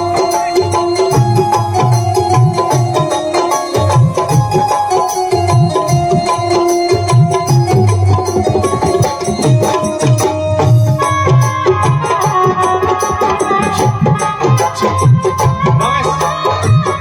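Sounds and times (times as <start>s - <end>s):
fast tabla drumming: 0.0s - 17.0s
held keyboard melody notes: 0.0s - 17.0s.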